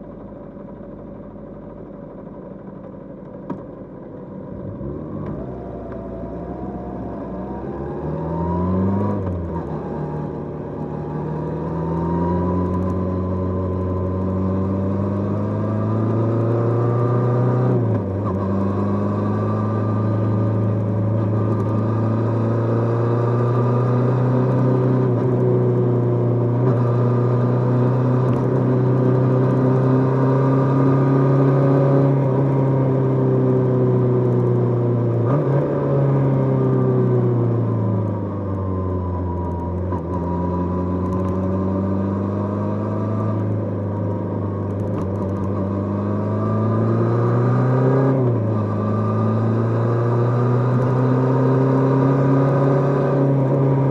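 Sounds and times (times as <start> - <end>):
motorcycle engine onboard: 0.0 - 53.9.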